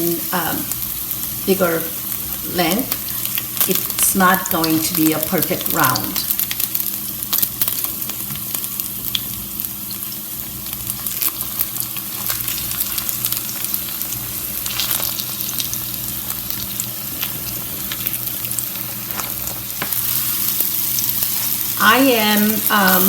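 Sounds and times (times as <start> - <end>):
batter sizzling in oil: 0.0 - 23.0.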